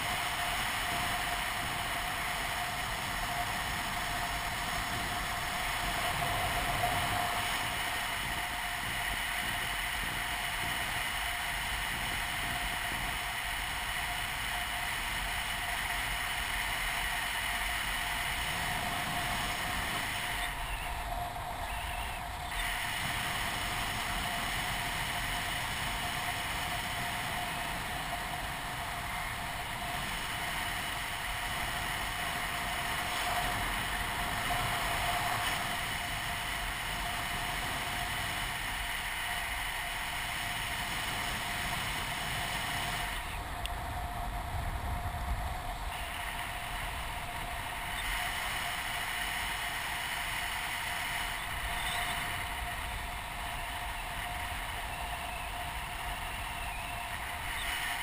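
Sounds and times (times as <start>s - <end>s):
paraglider engine drone: 0.0s - 58.0s
wind on microphone: 0.0s - 58.0s.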